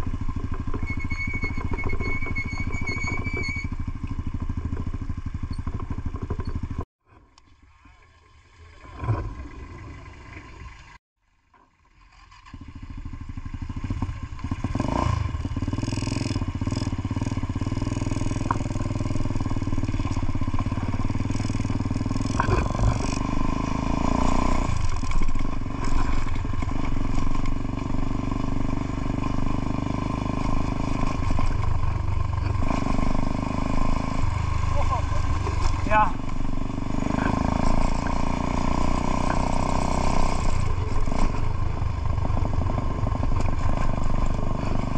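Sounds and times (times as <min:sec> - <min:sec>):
motorcycle engine running: 0:00.0 - 0:06.9, 0:12.4 - 0:44.9.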